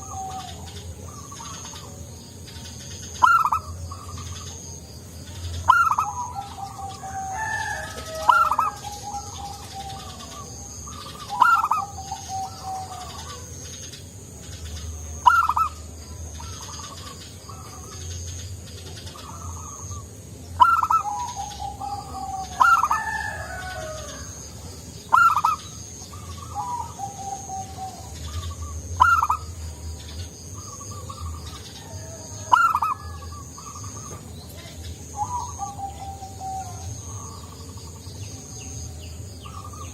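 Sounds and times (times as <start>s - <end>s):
dove singing and cooing: 0.0s - 39.9s.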